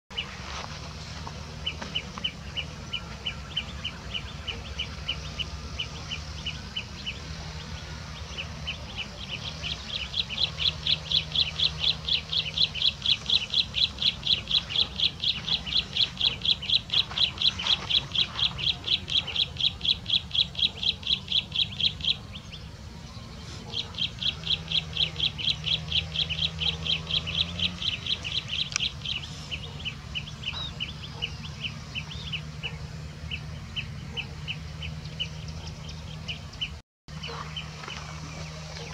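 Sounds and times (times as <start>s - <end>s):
bird chirping: 0.1s - 38.9s.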